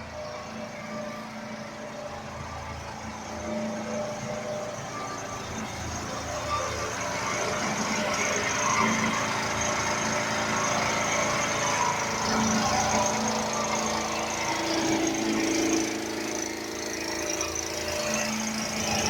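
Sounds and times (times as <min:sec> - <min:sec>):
pressure washer pump drone: 0:00.0 - 0:19.0.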